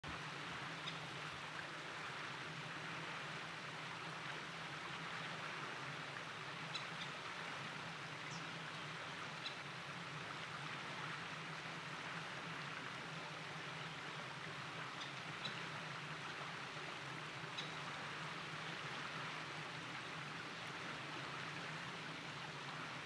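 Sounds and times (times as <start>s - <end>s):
stream flowing: 0.0s - 23.0s.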